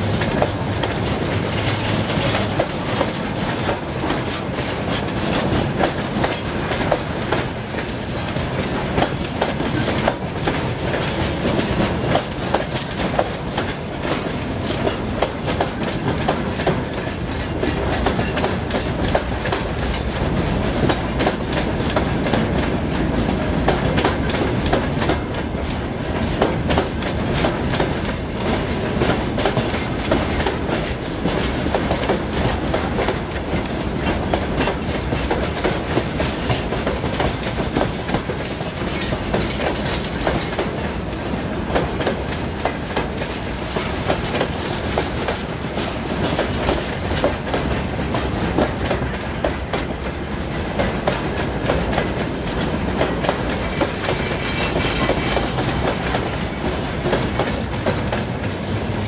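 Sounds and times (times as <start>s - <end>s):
train rumbling: 0.0s - 59.0s
train wheels clattering over rail joints: 0.0s - 59.0s.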